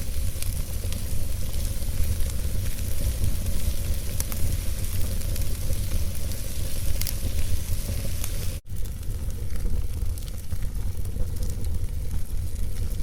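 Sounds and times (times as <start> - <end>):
burning logs crackling and popping: 0.0 - 13.0
fire rumbling and hissing: 0.0 - 13.0.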